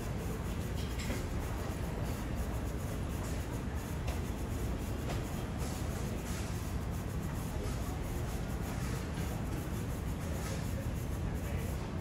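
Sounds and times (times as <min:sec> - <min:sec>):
low rumble of ventilation: 0:00.0 - 0:12.0.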